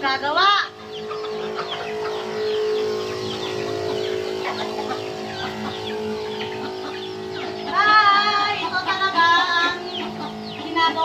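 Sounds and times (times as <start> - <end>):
chickens clucking: 0.0 - 11.0
steady hum: 0.0 - 11.0.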